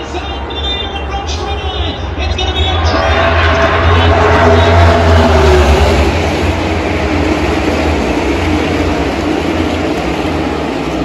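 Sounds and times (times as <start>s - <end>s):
race car engines rumbling: 0.0s - 11.0s.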